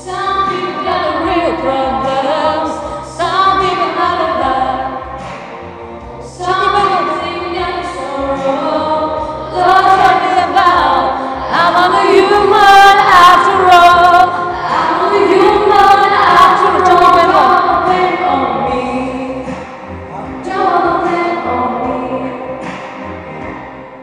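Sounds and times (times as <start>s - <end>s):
girl singing with vibrato: 0.0s - 5.2s, 6.2s - 19.6s, 20.2s - 22.6s.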